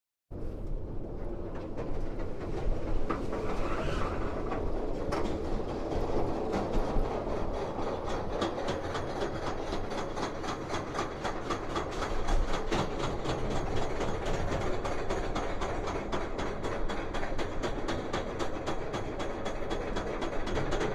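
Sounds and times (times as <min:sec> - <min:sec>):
rapid clicks of coaster track: 0:00.4 - 0:20.9
roller coaster rumble and rattle: 0:00.4 - 0:20.9.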